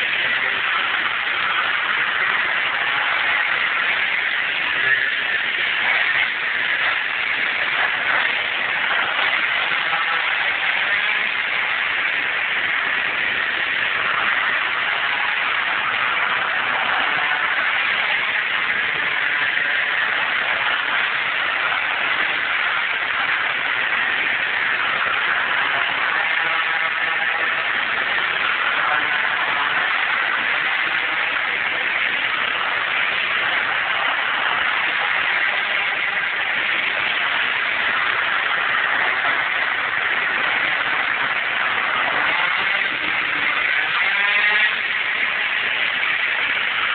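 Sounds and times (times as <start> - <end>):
scooter engine running: 0.0 - 46.9.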